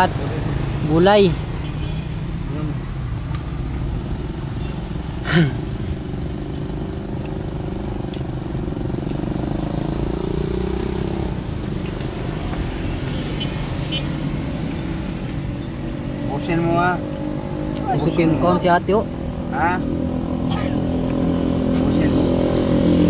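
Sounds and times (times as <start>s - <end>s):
engine running rumble: 2.2s - 23.0s.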